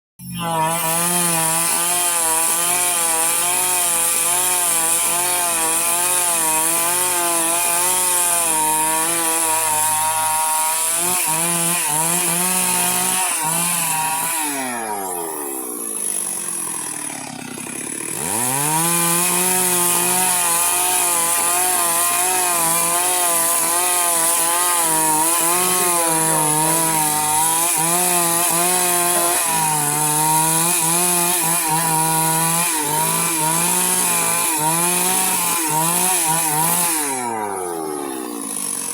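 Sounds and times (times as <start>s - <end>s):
chainsaw cutting log: 0.2s - 38.9s.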